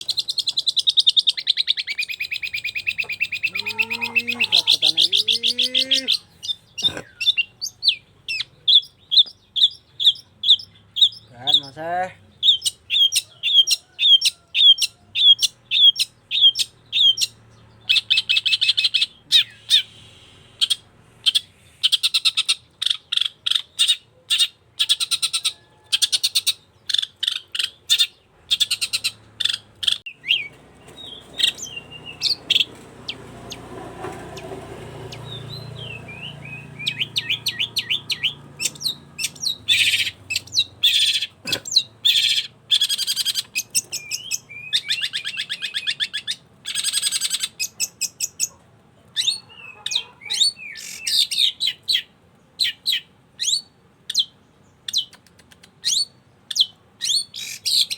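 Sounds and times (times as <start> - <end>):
bird chirping and trilling: 0.0 - 48.6, 49.2 - 55.2, 55.8 - 57.9
low background noise: 0.0 - 57.9.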